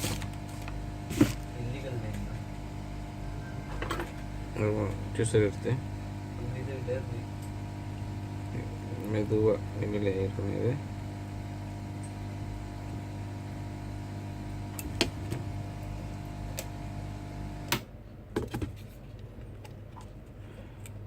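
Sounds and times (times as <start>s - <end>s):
steady low hum: 0.0s - 17.7s.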